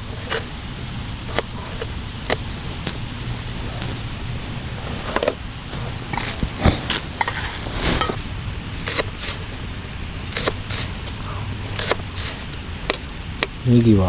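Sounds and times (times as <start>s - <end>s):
cookware and utensils clinking: 0.0s - 14.0s.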